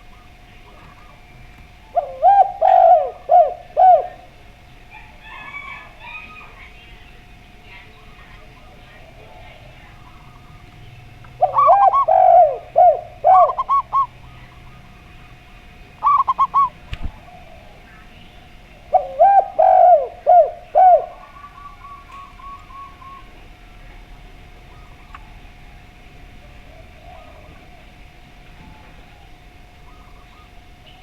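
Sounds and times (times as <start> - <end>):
doves cooing: 0.0 - 31.0.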